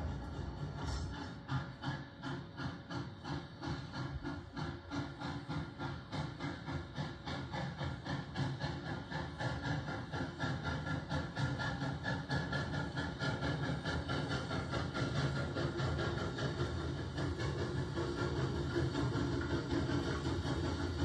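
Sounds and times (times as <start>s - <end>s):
steam hissing: 0.0s - 21.0s
steam locomotive exhaust chuffs: 0.0s - 21.0s.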